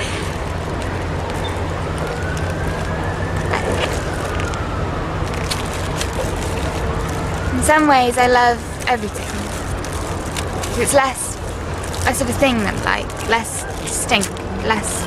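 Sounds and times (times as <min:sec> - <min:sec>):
low traffic-like hum and hiss: 0:00.0 - 0:15.0.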